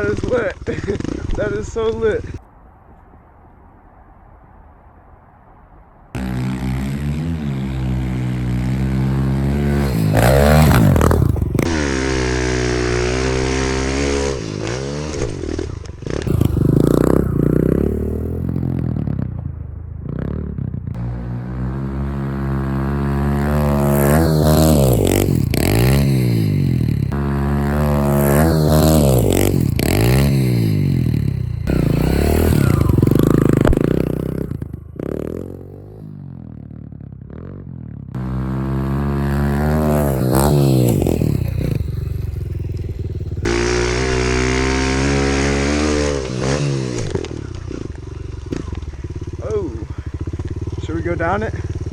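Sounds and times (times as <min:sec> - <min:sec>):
motorbike engine revving: 0:06.2 - 0:51.9.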